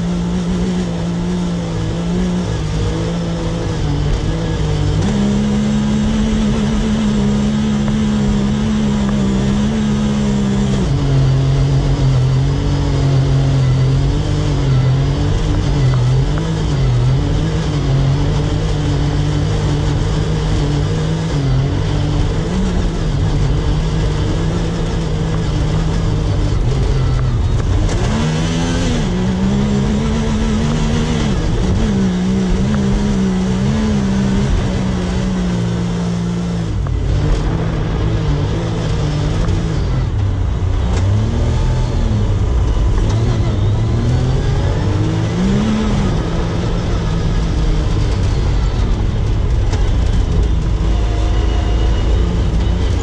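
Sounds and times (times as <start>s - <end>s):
off-road vehicle engine revving: 0.0s - 53.0s.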